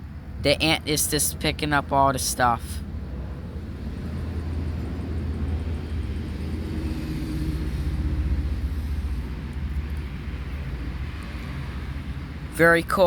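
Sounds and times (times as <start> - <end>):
motor vehicle engine rumble: 0.0 - 13.0.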